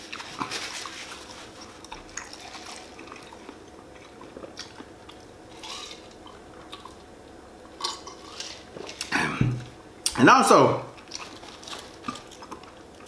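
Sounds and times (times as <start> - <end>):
person chewing: 0.0 - 10.2, 10.9 - 13.0.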